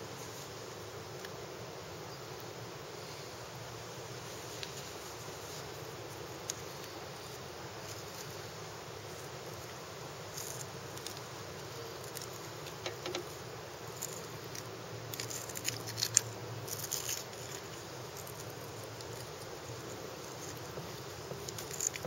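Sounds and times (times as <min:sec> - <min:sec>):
background hiss: 0:00.0 - 0:22.0.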